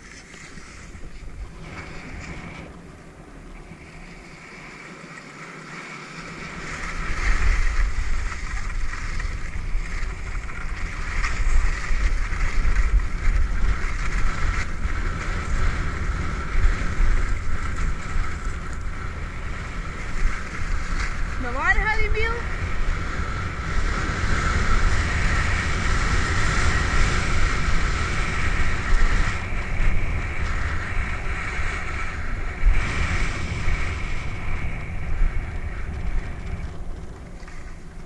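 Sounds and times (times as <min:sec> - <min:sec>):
skis scraping on snow: 0:00.0 - 0:22.0, 0:22.6 - 0:38.0
wind buffeting microphone: 0:00.0 - 0:38.0.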